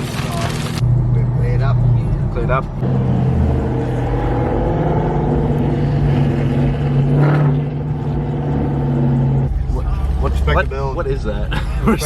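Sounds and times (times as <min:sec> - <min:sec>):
car engine and exhaust droning: 0:00.0 - 0:12.0.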